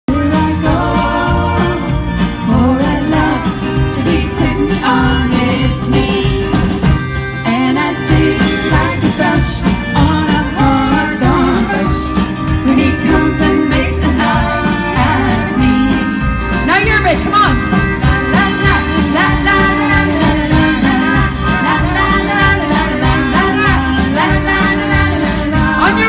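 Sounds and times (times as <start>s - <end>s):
drum kit: 0.1s - 26.0s
electric and acoustic guitars: 0.1s - 26.0s.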